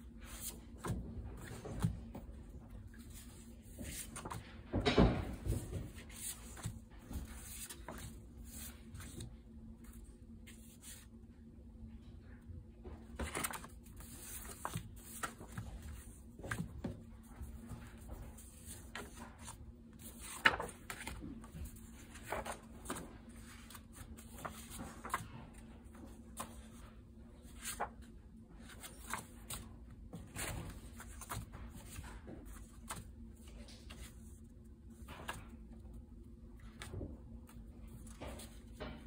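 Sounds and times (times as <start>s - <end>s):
paper cards rustling: 0.2s - 4.5s, 5.5s - 11.2s, 13.2s - 26.8s, 27.4s - 35.6s.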